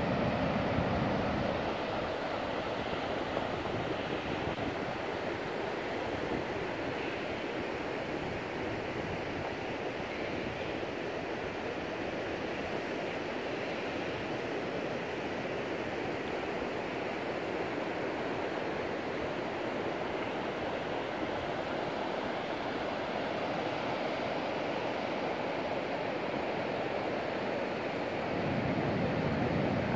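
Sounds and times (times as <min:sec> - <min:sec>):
waves breaking on beach: 0:00.0 - 0:29.9.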